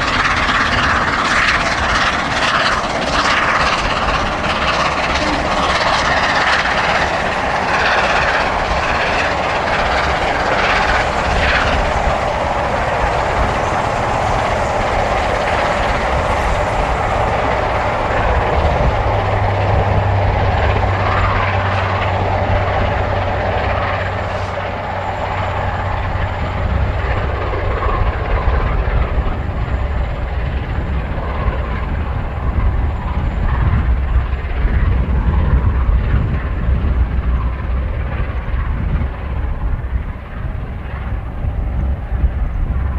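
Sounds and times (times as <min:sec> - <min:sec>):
steam locomotive exhaust: 0:00.0 - 0:37.2.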